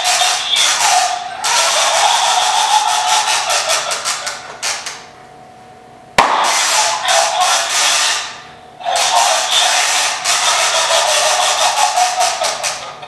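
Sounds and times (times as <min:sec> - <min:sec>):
crackly speaker audio: 0:00.0 - 0:13.0.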